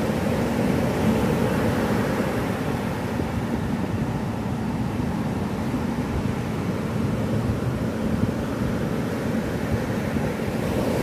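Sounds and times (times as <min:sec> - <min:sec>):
ocean surf on beach: 0:00.0 - 0:11.0
wind rumble on microphone: 0:00.0 - 0:11.0.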